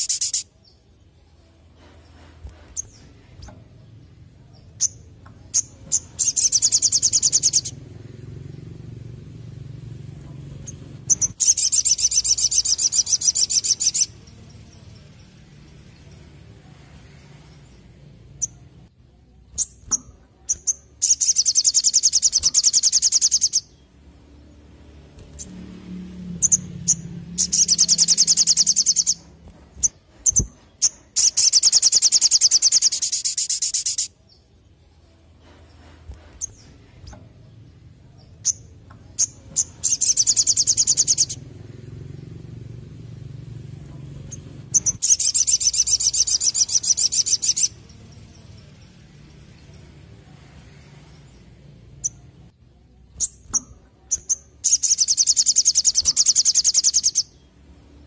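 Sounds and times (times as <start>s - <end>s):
bird high trilling song: 0.0s - 8.8s, 10.5s - 16.2s, 17.3s - 24.0s, 26.4s - 41.5s, 44.2s - 49.9s, 50.9s - 57.6s.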